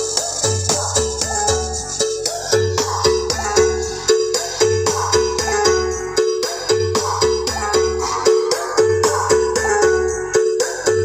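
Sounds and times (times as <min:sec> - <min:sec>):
loud music with deep bass: 0:00.0 - 0:11.0.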